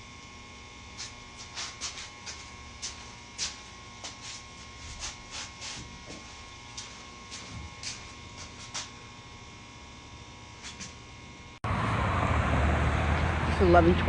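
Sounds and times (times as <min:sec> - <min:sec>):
faint electrical hum: 0:00.0 - 0:11.6.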